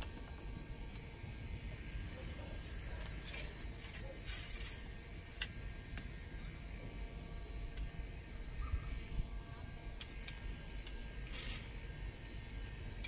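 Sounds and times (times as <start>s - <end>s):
night insects: 0.0s - 13.0s.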